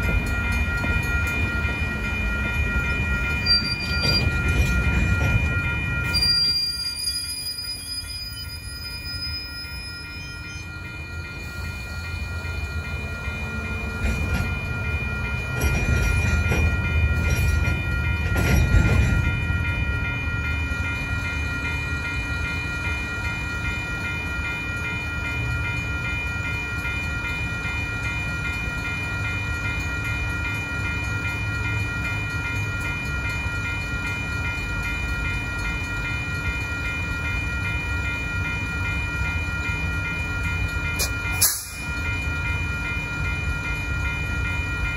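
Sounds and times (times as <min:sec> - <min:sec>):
diesel locomotive engine rumble: 0:00.0 - 0:44.9
electronic crossing bell ringing: 0:00.0 - 0:44.9.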